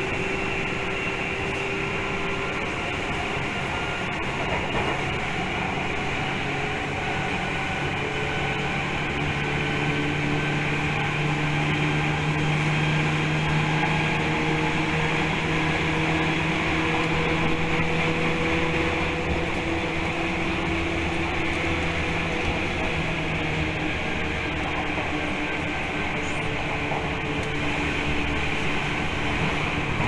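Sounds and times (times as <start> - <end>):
train motor and gear hum: 0.0 - 30.0
train wheels rumbling: 0.0 - 30.0.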